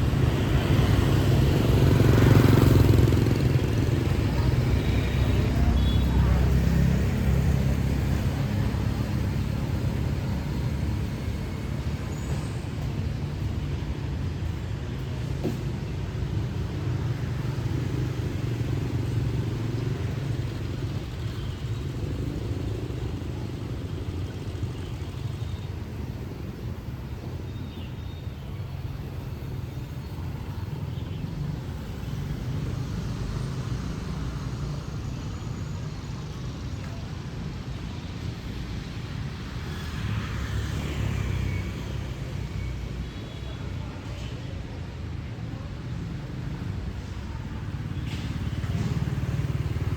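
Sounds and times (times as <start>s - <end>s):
street traffic rumble: 0.0s - 49.9s.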